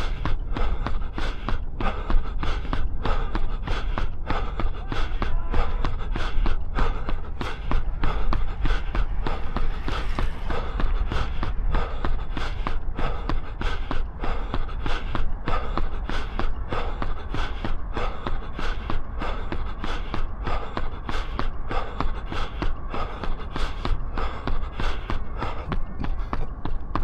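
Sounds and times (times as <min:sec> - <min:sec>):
hard breathing: 0:00.0 - 0:27.0
low rumble: 0:00.0 - 0:27.0
running footsteps: 0:00.0 - 0:27.0.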